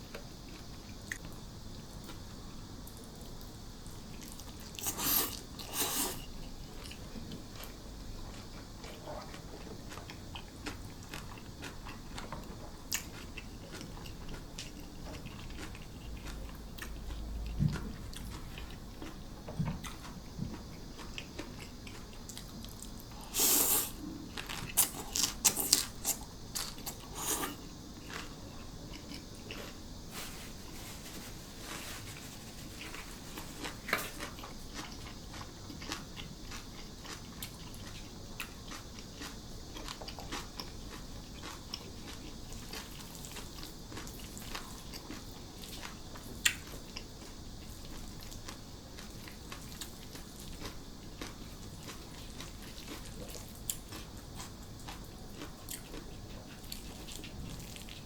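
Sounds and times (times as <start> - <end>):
crunchy chewing: 2.9 - 58.0.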